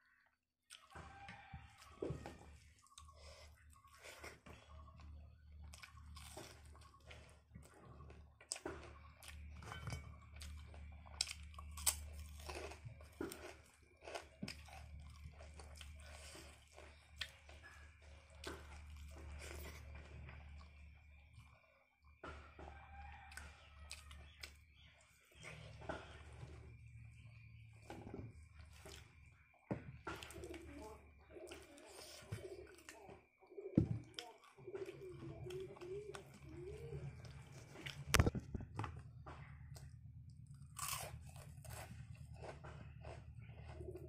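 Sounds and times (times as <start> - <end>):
chewing with crunches: 0.7 - 44.0.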